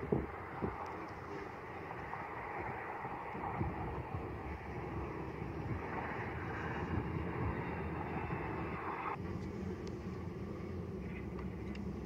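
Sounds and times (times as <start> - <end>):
jet engines rushing: 0.0 - 12.0
wind on microphone: 0.0 - 12.0.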